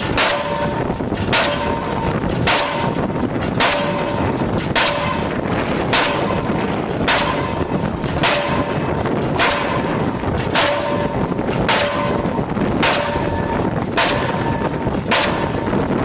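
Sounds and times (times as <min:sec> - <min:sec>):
engine rumble: 0:00.0 - 0:16.0
pile hammer blows with metallic ring: 0:00.0 - 0:16.0.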